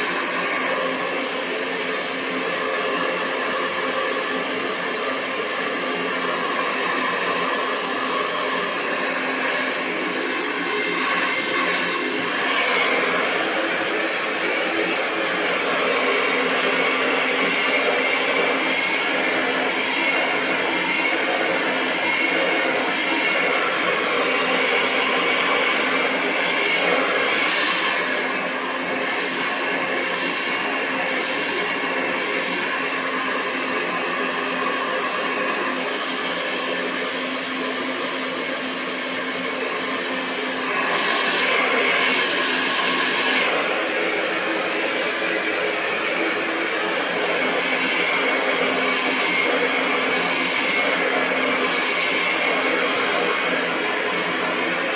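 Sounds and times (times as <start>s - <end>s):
hair dryer running: 0.0s - 54.9s.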